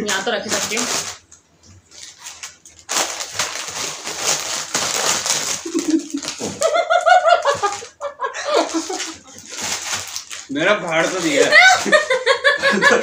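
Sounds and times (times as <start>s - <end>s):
foil packets crinkling: 0.0s - 13.0s.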